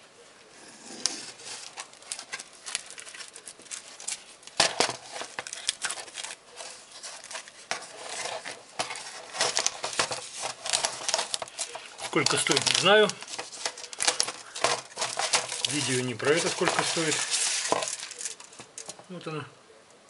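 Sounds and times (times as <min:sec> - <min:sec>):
plastic wrap crinkling: 0:01.2 - 0:19.1.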